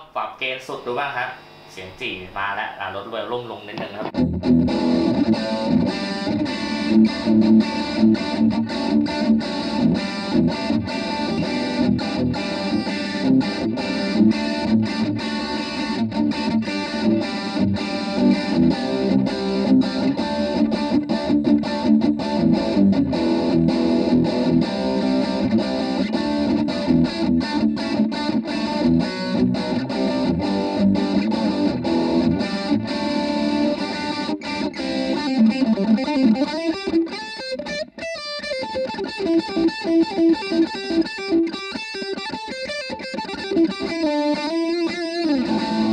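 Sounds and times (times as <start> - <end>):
distorted electric guitar riffs: 0.0 - 45.9.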